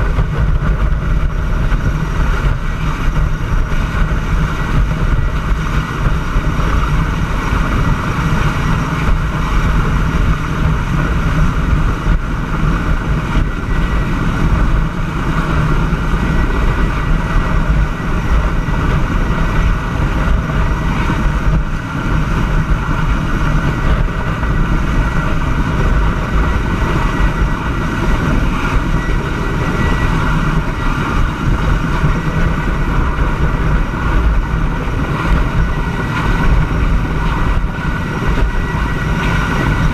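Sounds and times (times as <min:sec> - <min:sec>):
helicopter engine and rotor: 0:00.0 - 0:39.9
rushing wind: 0:00.0 - 0:39.9.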